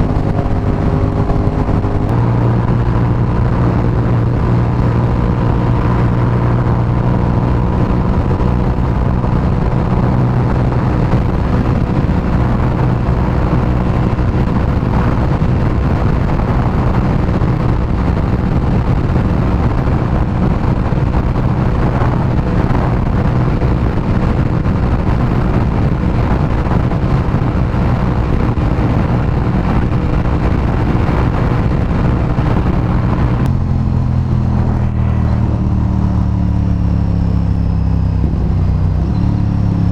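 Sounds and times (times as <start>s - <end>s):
motorcycle engine running: 0.0s - 39.9s
rushing wind: 0.0s - 39.9s.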